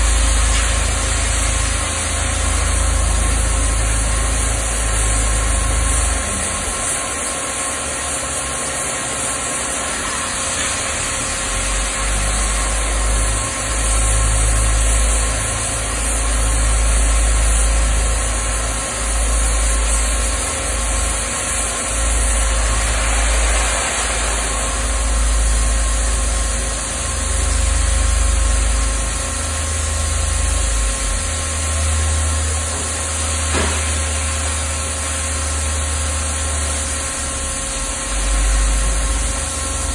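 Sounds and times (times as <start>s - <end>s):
machine hum and torch hiss: 0.0s - 39.9s.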